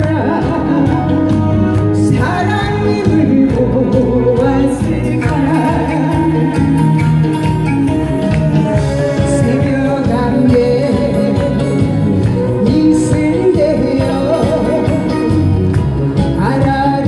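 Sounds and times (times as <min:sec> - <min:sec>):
instrumental accompaniment: 0:00.0 - 0:17.0
person singing: 0:00.0 - 0:17.0.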